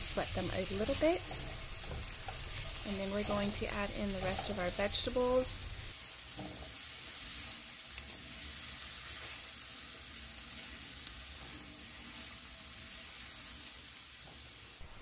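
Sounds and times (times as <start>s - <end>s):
vegetables sizzling in butter: 0.0s - 15.0s.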